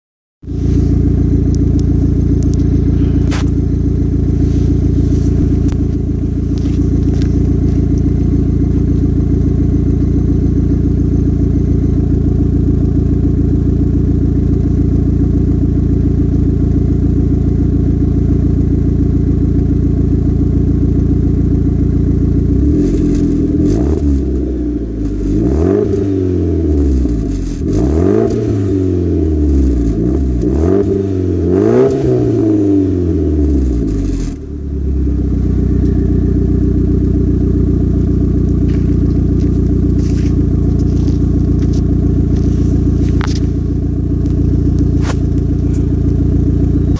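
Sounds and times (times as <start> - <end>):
car engine idling and revving: 0.4 - 46.9.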